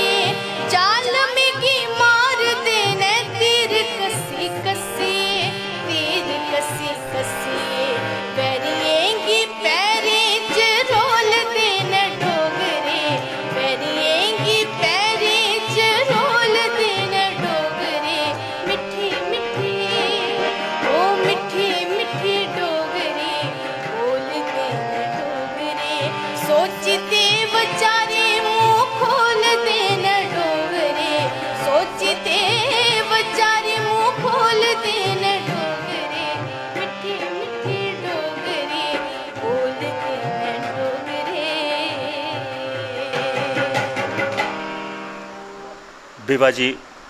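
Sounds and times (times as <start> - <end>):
woman singing folk song: 0.0 - 44.6
harmonium chords: 0.0 - 47.0.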